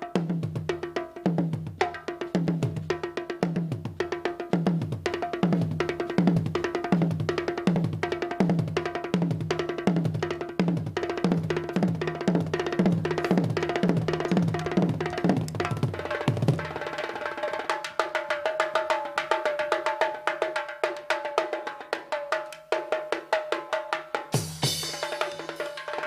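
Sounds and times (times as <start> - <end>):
tabla played fast: 0.0 - 26.0.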